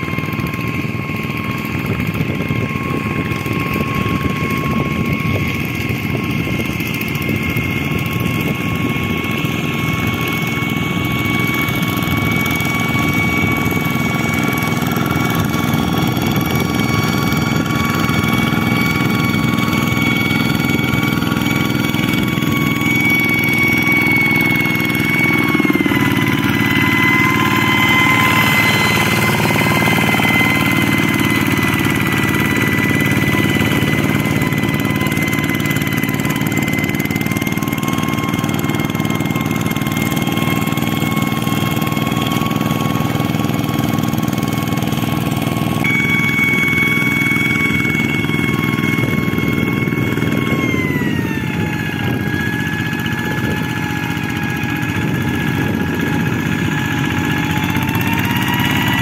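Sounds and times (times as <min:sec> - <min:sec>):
diesel engine chugging: 0:00.0 - 0:59.0
high whine: 0:00.0 - 0:59.0.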